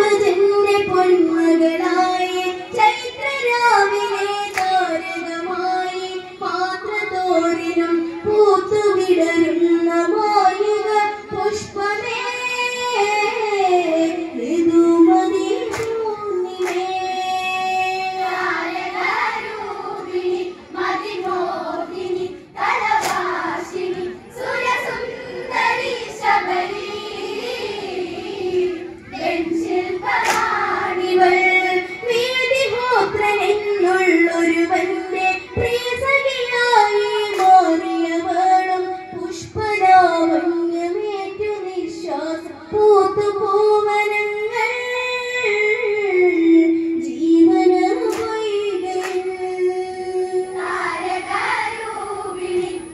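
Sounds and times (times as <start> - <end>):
women and girls singing over pa: 0.0 - 52.9.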